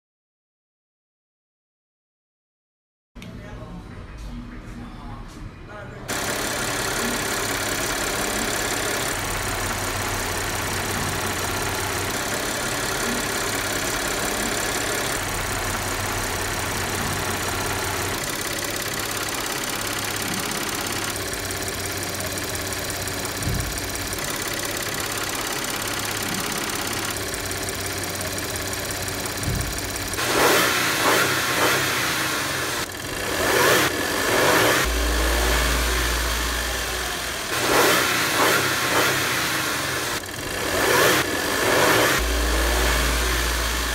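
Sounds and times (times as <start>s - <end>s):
car engine idling with clatter: 6.1s - 43.9s
irregular engine crackling: 6.1s - 43.9s.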